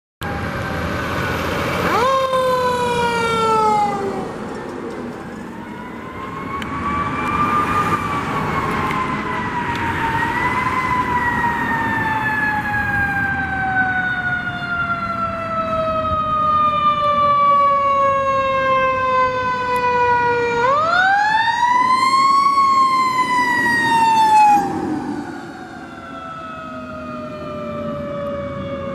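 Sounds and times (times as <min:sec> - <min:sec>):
fire truck siren wailing: 0:00.2 - 0:28.9
passing traffic rumble: 0:00.2 - 0:28.9.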